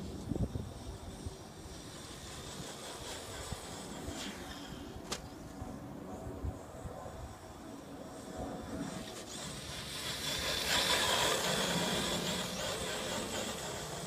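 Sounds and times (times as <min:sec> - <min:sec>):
rc car motor whine: 0:00.0 - 0:05.7, 0:06.5 - 0:14.0.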